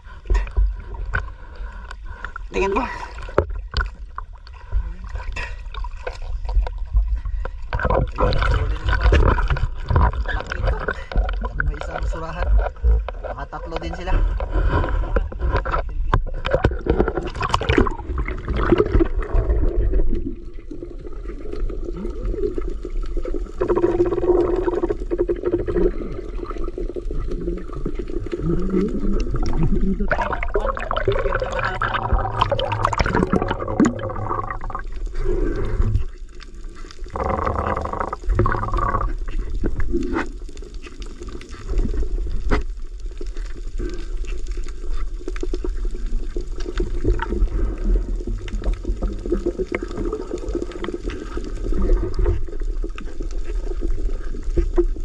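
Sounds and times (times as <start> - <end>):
muffled underwater water sloshing: 0.0 - 55.0.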